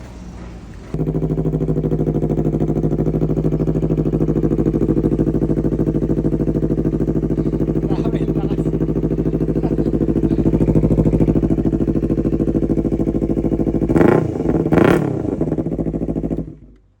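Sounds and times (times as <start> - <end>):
motorcycle engine idling: 0.0 - 17.0
motorcycle throttle blips: 0.0 - 17.0.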